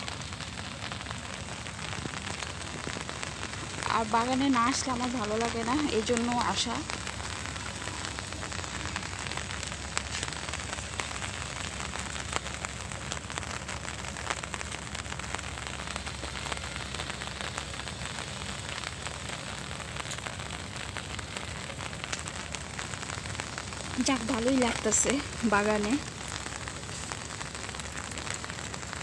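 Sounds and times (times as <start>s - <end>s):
rain on plant leaves: 0.0s - 29.0s.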